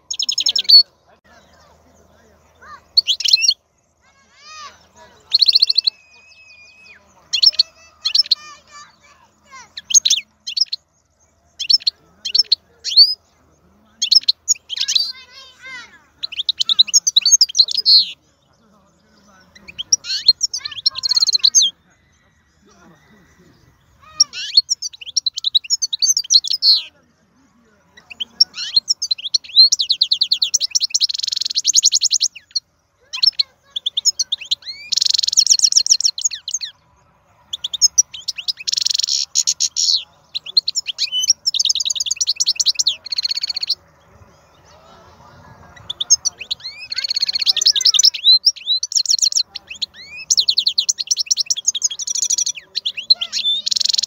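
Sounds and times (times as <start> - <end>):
goldfinch singing: 0.0 - 54.0.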